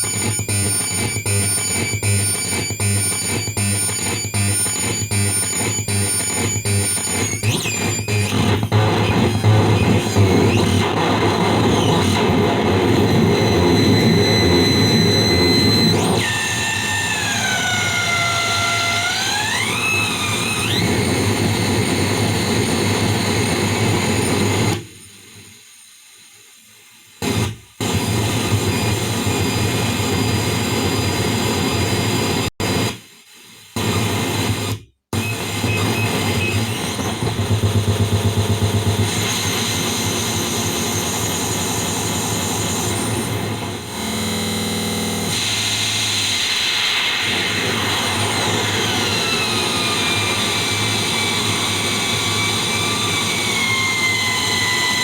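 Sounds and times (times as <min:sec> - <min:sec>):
harsh electronic noise and feedback: 0:00.0 - 0:24.8, 0:33.8 - 0:55.0.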